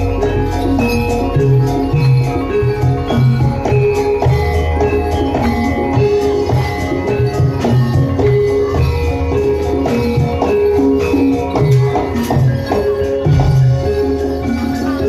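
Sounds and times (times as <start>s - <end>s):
low drum beats: 0.0s - 14.9s
jingling percussion: 0.0s - 15.0s
ringing metal percussion melody: 0.0s - 15.0s.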